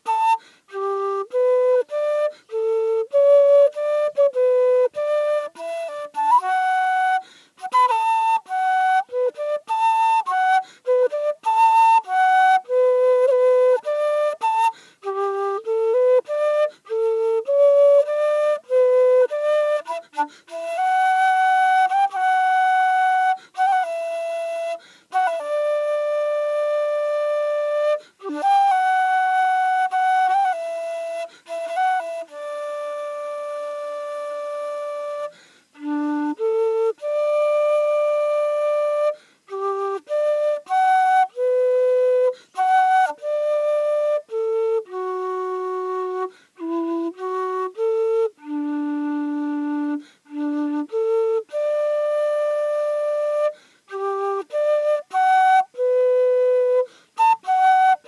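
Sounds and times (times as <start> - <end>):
solo flute melody: 0.0 - 58.0.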